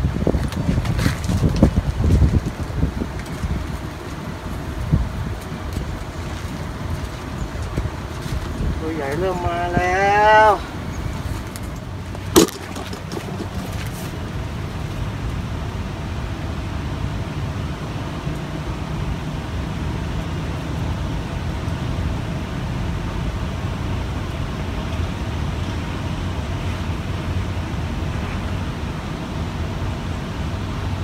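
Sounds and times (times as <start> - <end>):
distant road traffic rumble: 0.0 - 31.0.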